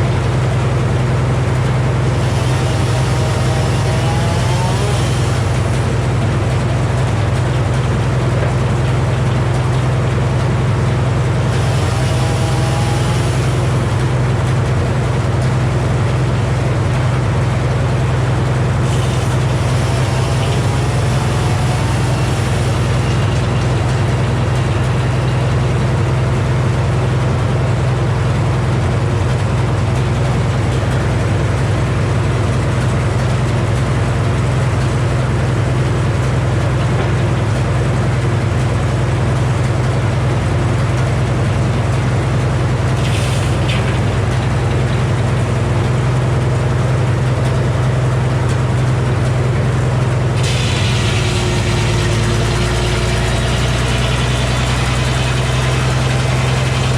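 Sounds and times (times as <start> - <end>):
sawmill engine running: 0.0 - 56.9.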